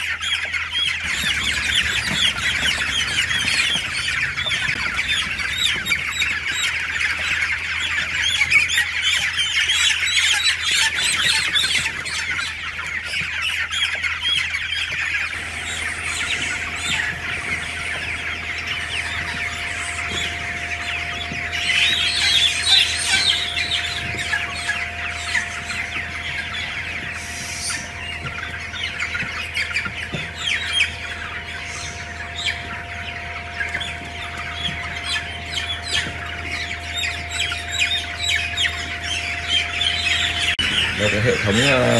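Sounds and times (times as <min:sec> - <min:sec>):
chicks cheeping: 0:00.0 - 0:41.9
machine hum: 0:00.0 - 0:41.9.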